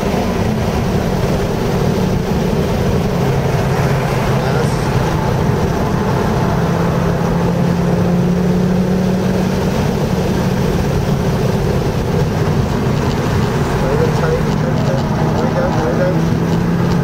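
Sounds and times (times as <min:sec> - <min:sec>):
car engine under load: 0:00.0 - 0:17.0
road and tyre noise: 0:00.0 - 0:17.0.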